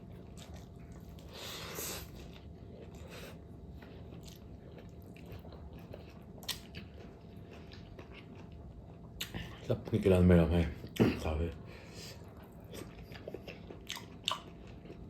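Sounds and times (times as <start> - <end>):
person chewing: 0.0 - 9.6, 12.1 - 15.0.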